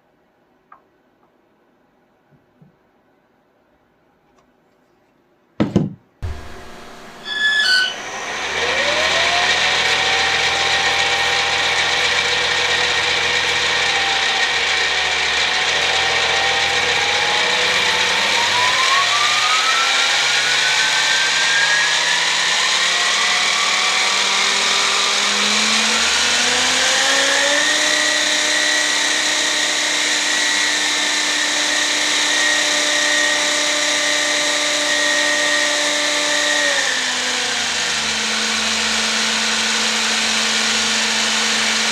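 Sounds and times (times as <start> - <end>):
model turbine whine: 6.2 - 41.9.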